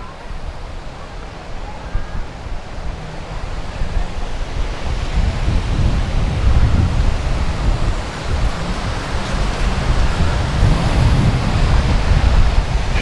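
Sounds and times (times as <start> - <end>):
waves washing on beach: 0.0 - 13.0
wind buffeting microphone: 0.0 - 13.0.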